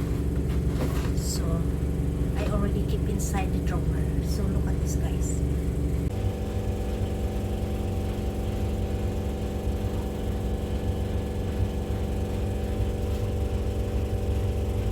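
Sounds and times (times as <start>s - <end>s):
washing machine running: 0.0s - 14.9s.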